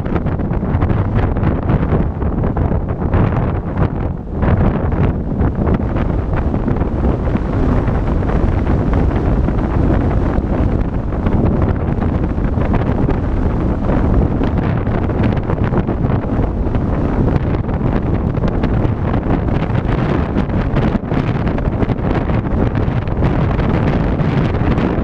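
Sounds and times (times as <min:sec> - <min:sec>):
car road and tyre noise: 0:00.0 - 0:25.0
wind buffeting microphone: 0:00.0 - 0:25.0.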